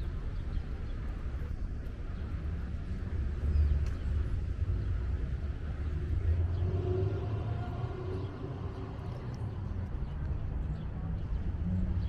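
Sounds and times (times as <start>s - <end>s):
low rumble of city ambience: 0.0s - 12.0s.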